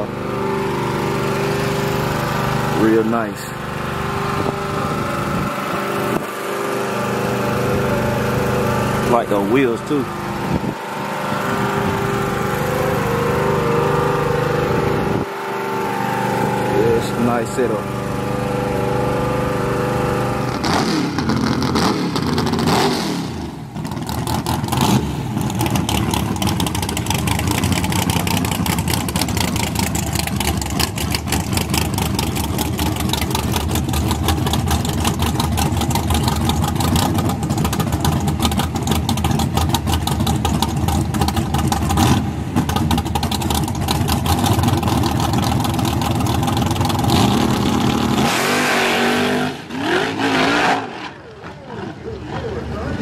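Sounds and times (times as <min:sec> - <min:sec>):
pickup engine idling with choppy lope: 0:00.0 - 0:22.7, 0:23.3 - 0:48.2, 0:50.8 - 0:53.0.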